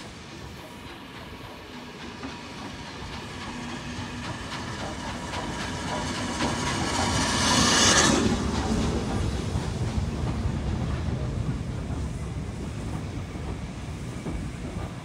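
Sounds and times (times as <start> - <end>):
steam hissing: 0.0 - 15.0
train wheels clicking over rail joints: 0.0 - 15.0.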